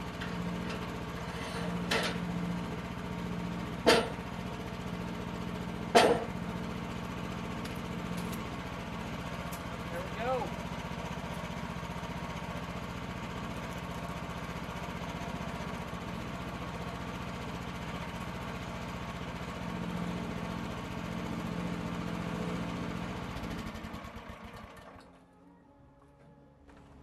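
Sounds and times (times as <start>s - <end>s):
small gas engine running: 0.0s - 27.0s.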